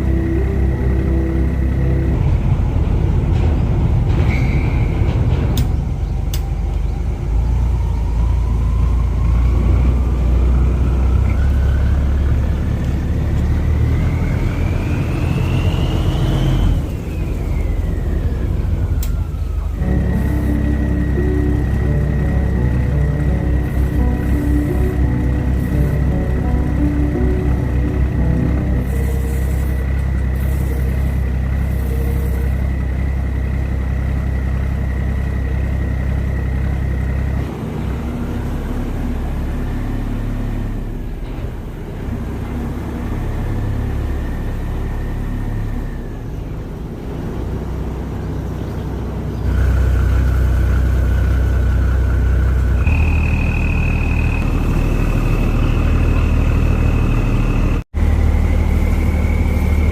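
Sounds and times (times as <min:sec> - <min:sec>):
boat engine with high whine: 0:00.0 - 0:59.9.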